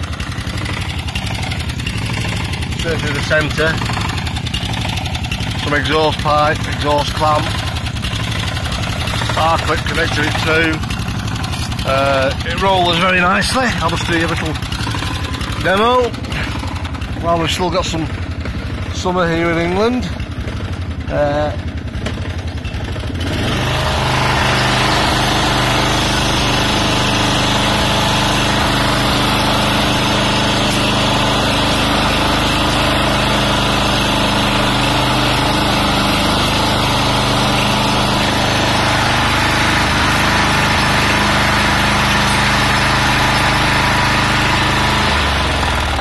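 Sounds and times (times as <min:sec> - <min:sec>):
ride-on lawnmower engine running: 0:00.0 - 0:46.0.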